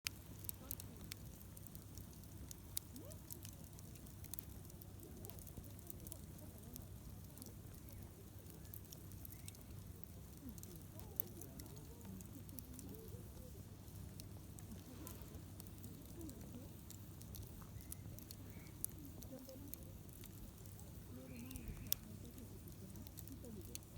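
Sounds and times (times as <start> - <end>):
campfire crackling and popping: 0.0 - 23.9
low steady rumble: 0.1 - 23.9.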